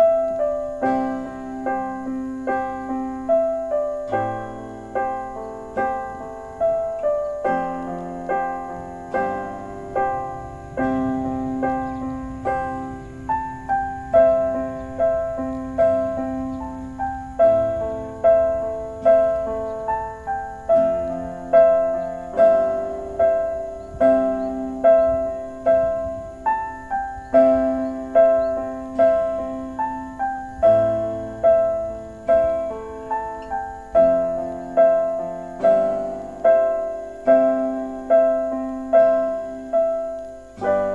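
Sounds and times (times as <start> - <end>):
gentle piano melody: 0.0 - 40.9.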